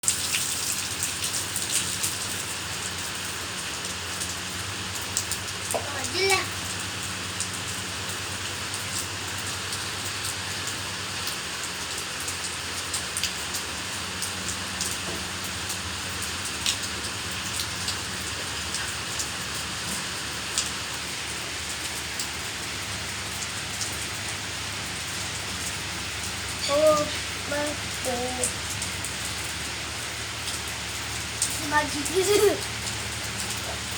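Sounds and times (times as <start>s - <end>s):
rain pattering on surfaces: 0.0s - 33.9s.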